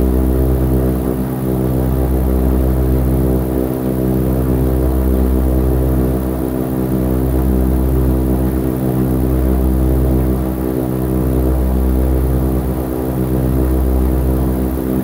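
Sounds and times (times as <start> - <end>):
airship engines and propellers droning: 0.0 - 15.0.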